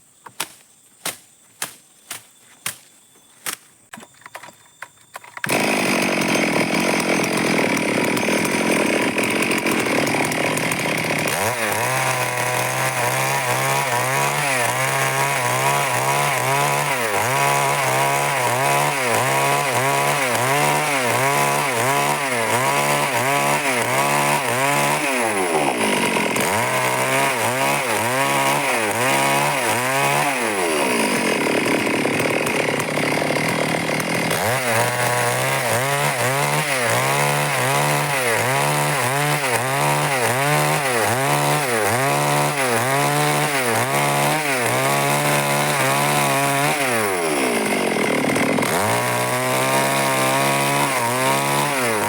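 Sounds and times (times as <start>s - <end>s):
chainsaw cutting wood: 5.2s - 52.0s.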